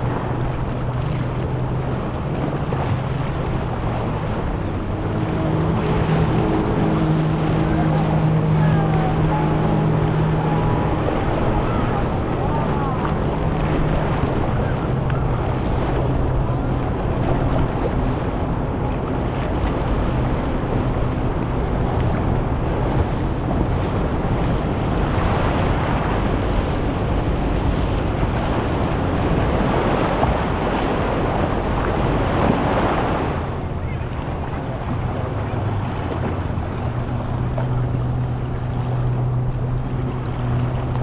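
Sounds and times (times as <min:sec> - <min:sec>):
boat engines humming: 0:00.0 - 0:41.0
water spray and wake rushing: 0:00.0 - 0:41.0
wind buffeting microphone: 0:00.0 - 0:41.0.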